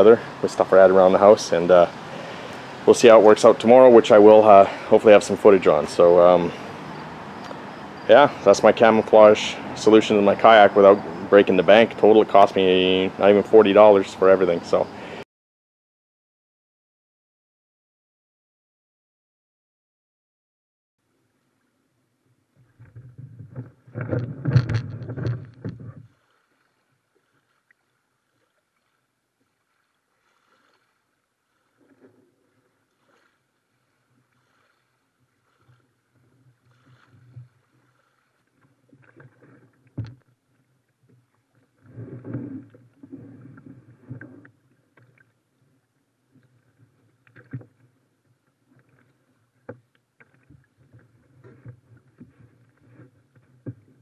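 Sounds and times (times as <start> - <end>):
kayak scraping over pebbles: 0.0 - 15.0, 22.6 - 45.8, 46.4 - 54.0.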